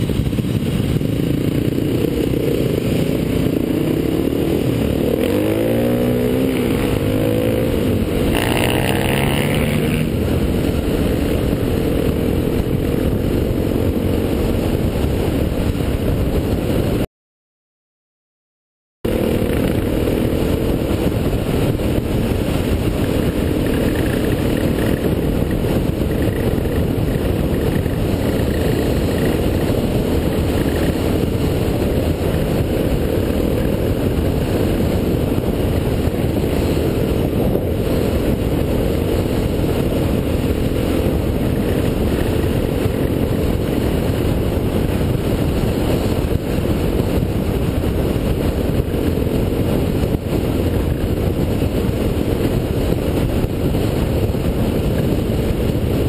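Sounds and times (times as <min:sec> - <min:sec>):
motorcycle engine running: 0:00.0 - 0:17.1, 0:19.1 - 0:56.0
wind rumble on microphone: 0:00.0 - 0:17.1, 0:19.0 - 0:56.0.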